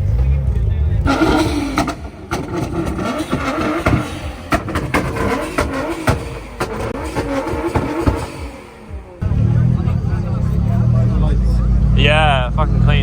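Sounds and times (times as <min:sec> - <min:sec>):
car engine revving: 0:00.0 - 0:13.0
sharp exhaust cracks: 0:00.0 - 0:13.0.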